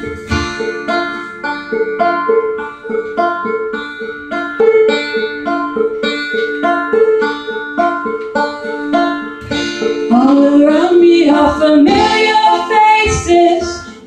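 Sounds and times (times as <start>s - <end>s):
banjo picking: 0.0s - 14.0s.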